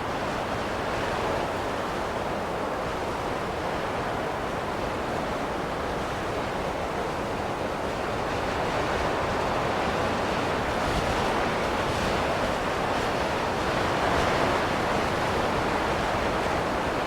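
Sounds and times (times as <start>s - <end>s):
rushing wind of a snowstorm: 0.0s - 17.0s.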